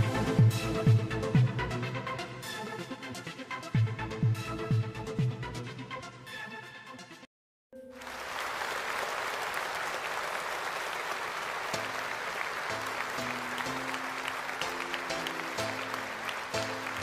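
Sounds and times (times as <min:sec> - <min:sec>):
background music: 0:00.0 - 0:08.8, 0:11.7 - 0:17.0.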